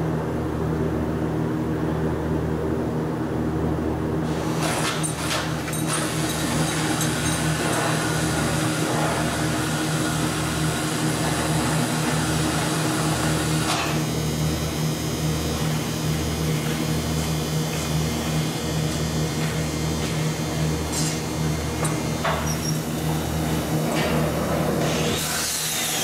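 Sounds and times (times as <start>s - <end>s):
low mechanical hum pulsing: 0.0s - 26.0s.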